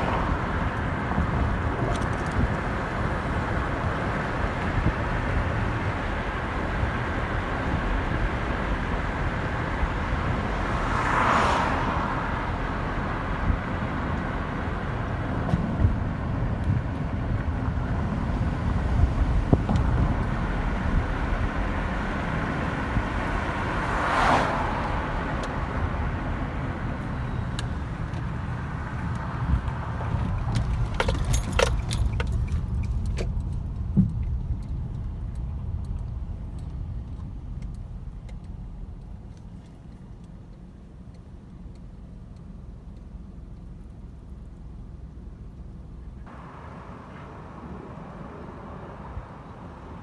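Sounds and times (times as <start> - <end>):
vehicles swishing past: 0.0 - 40.3, 46.2 - 50.0
traffic low rumble: 0.0 - 50.0.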